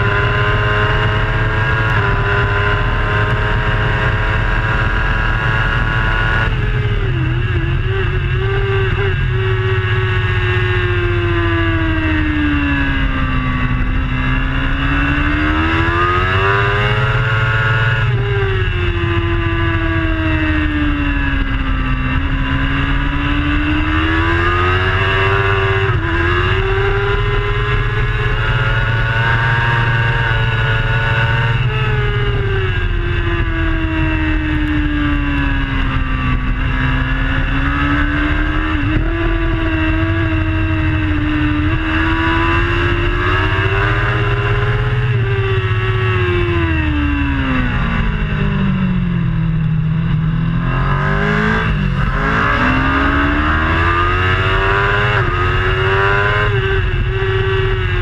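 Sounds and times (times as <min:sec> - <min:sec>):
superbike engine at high revs: 0:00.0 - 0:58.0.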